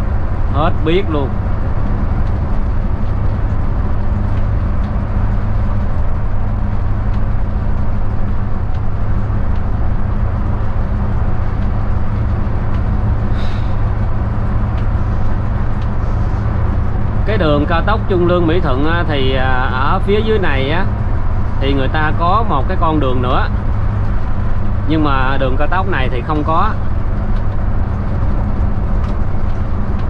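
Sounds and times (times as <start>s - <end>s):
coach engine drone: 0.0s - 30.0s
road and tyre noise: 0.0s - 30.0s.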